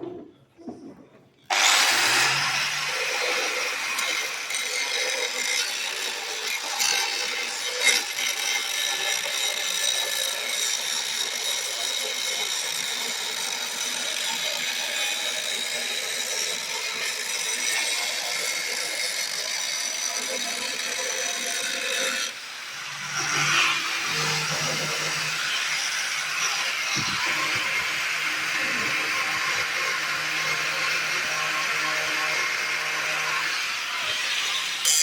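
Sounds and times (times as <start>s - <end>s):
power tool running: 1.4s - 35.0s.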